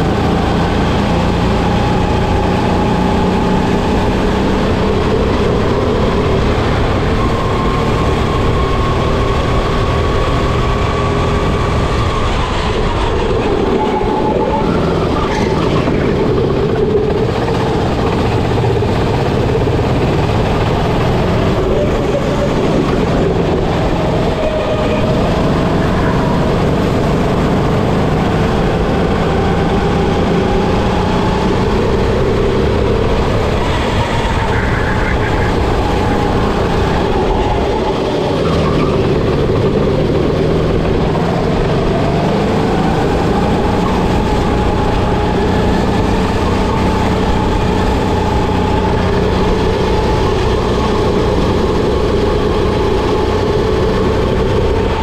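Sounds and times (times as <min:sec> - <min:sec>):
kart engine racing: 0:00.0 - 0:55.0
rushing noise: 0:00.0 - 0:55.0.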